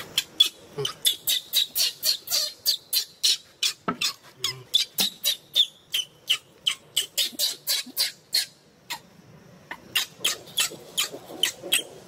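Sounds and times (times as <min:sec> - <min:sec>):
monkey screaming: 0:00.0 - 0:09.0, 0:09.7 - 0:11.9.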